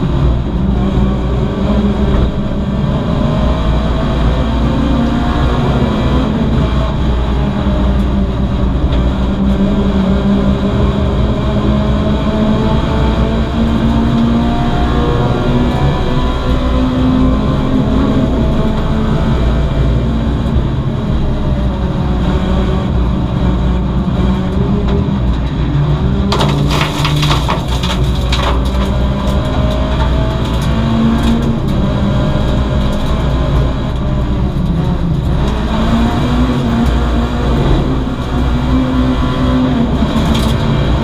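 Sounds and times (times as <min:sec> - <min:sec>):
race car engine running hard: 0:00.0 - 0:41.0
road and wind noise: 0:00.0 - 0:41.0.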